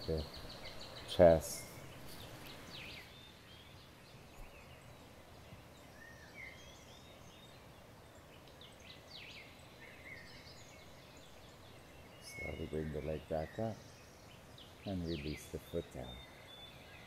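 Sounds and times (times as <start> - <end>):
faint bird chirps and whistles: 0.0 - 17.0
low background hiss: 0.0 - 17.0.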